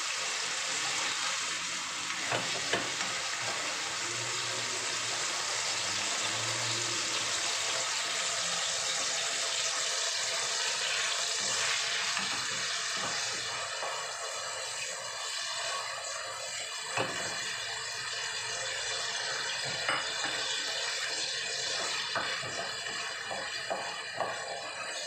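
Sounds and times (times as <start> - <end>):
meat sizzling in a frying pan: 0.0 - 25.0.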